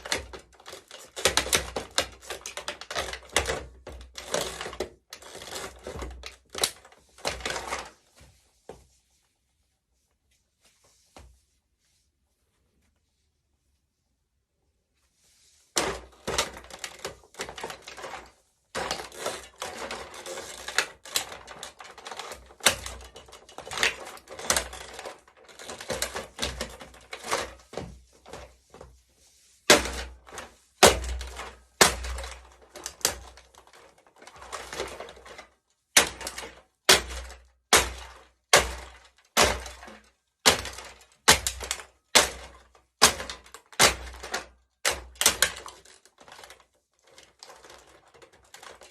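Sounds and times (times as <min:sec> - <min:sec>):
plastic cracking and crunching: 0:00.0 - 0:08.0, 0:15.8 - 0:28.6, 0:29.7 - 0:48.9.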